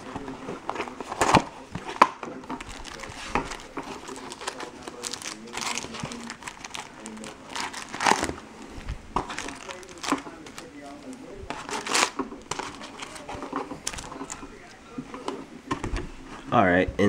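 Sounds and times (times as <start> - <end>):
foil wrappers crinkling: 0.0 - 14.8.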